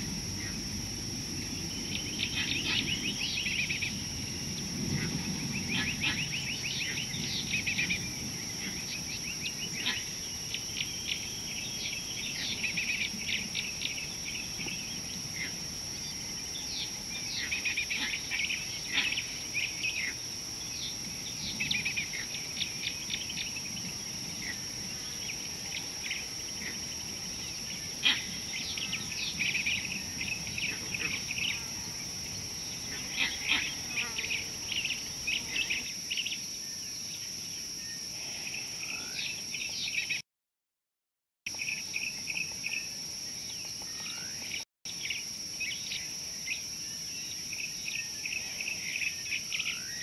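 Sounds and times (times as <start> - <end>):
steady high-pitched whine: 0.0 - 40.2
wild birds chirping: 0.0 - 40.2, 41.5 - 50.0.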